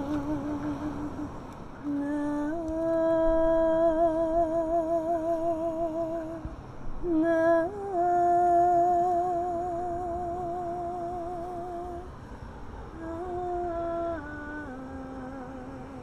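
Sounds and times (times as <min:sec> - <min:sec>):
woman singing with vibrato: 0:00.0 - 0:12.2, 0:12.9 - 0:16.0.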